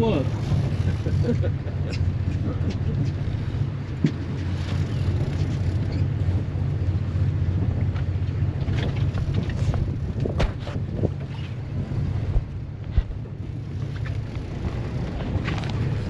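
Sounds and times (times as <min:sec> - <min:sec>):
boat engine humming: 0:00.0 - 0:16.0
wind on microphone: 0:02.2 - 0:16.0.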